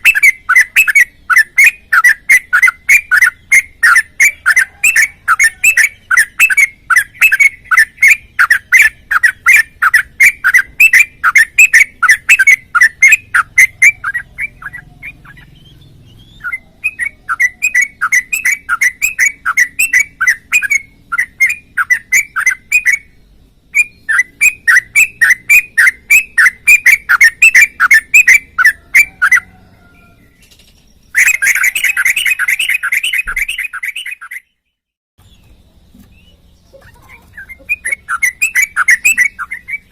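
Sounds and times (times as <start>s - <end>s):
bulbul rapid chirping: 0.0s - 29.5s, 30.4s - 34.5s, 36.0s - 39.9s.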